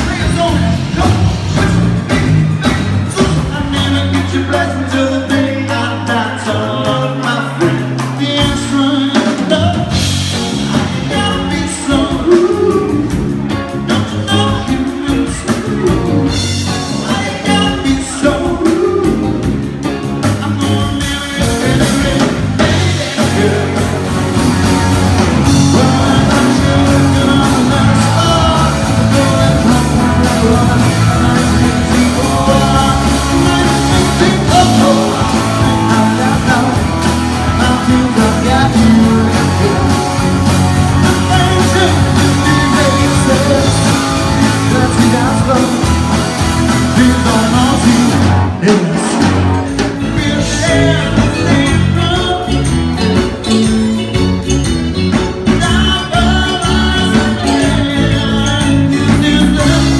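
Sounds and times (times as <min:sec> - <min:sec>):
man singing: 0:00.0 - 0:54.2, 0:55.2 - 0:59.9
bass guitar: 0:00.0 - 0:59.9
drum kit: 0:00.0 - 0:59.9
electric guitar: 0:00.0 - 0:59.9.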